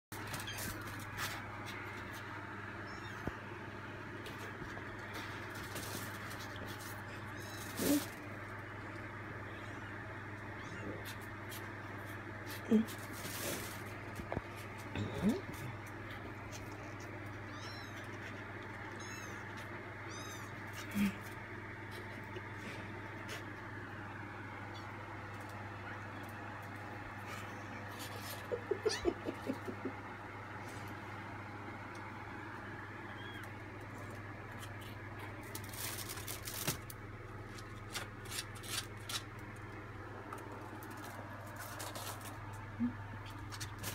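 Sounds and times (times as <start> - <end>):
steady low hum: 0.1 - 43.9
kittens mewing: 0.2 - 3.6, 4.2 - 36.6.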